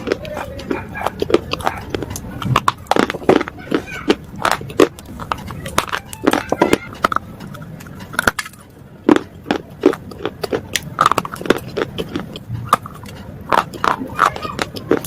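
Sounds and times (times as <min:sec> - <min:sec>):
biting and chewing hard bars: 0:00.0 - 0:15.0.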